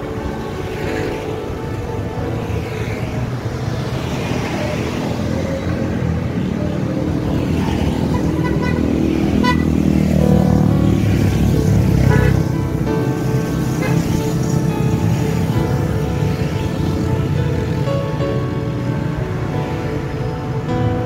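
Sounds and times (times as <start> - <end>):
motorcycle engines running: 1.5 - 20.6.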